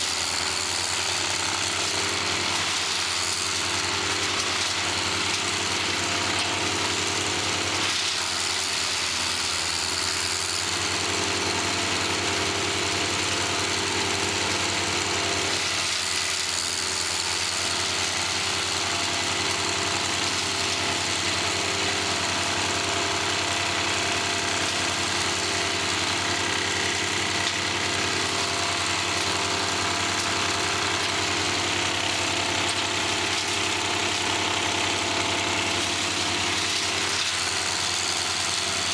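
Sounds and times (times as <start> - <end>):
wood chipper engine drone: 0.0 - 38.9.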